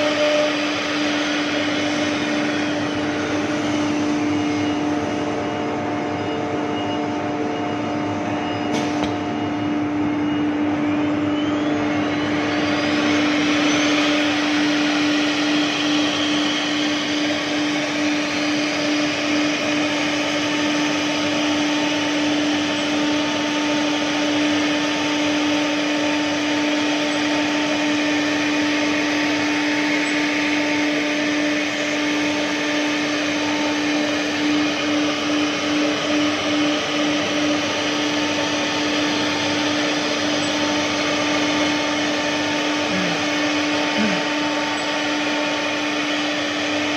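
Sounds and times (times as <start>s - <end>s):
rushing noise of cutting: 0.0s - 5.3s, 11.9s - 46.9s
router spindle whine: 0.0s - 46.9s.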